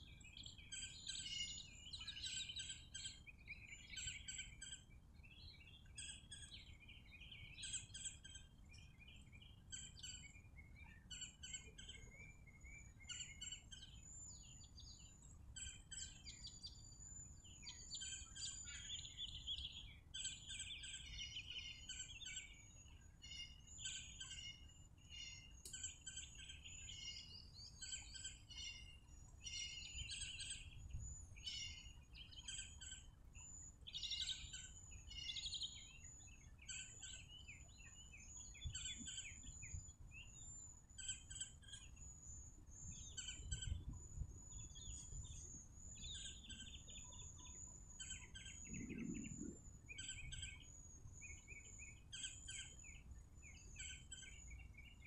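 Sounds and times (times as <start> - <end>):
faint bird chirps: 0.0 - 55.0.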